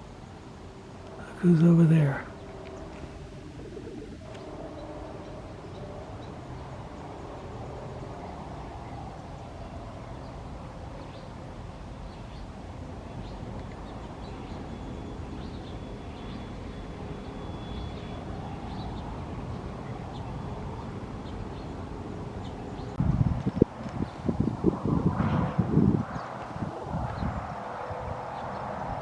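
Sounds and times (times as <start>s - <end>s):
birds chirping: 0.0s - 24.3s
steady low background noise: 0.0s - 29.0s.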